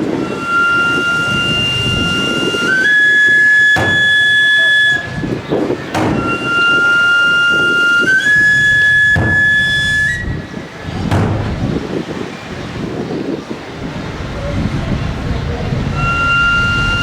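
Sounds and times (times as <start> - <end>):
shawm playing reedy notes: 0.0 - 11.6, 15.0 - 17.0.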